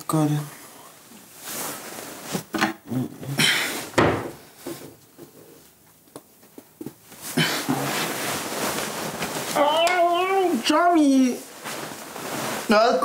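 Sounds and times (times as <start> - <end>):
bedclothes rustling: 1.0 - 2.6, 3.4 - 13.0.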